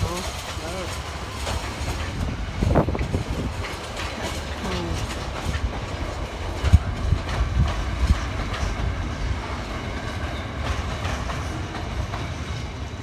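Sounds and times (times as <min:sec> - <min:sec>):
freight train wagons rolling: 0:00.0 - 0:13.0
wheels clacking over rail joints: 0:00.0 - 0:13.0.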